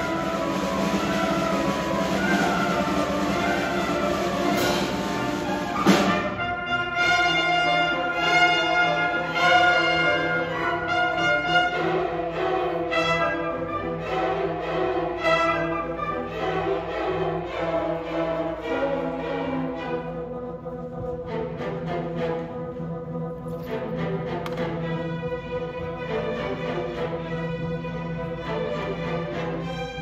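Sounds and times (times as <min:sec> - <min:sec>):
orchestra playing: 0:00.0 - 0:30.0.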